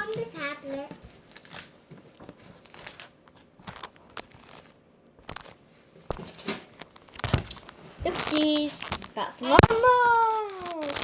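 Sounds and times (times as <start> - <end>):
slime crackling and popping: 0.0 - 1.7, 2.6 - 5.6, 6.8 - 11.0.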